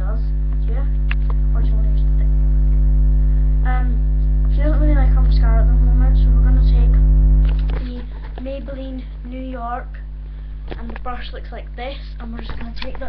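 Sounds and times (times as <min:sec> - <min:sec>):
loud electrical mains hum: 0:00.0 - 0:13.0.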